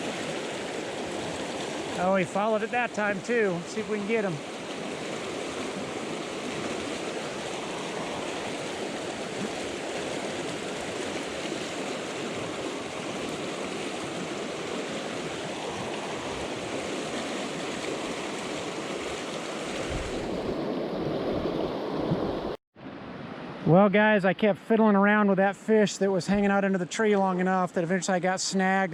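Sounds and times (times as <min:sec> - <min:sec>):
river water rushing: 0:00.0 - 0:23.8.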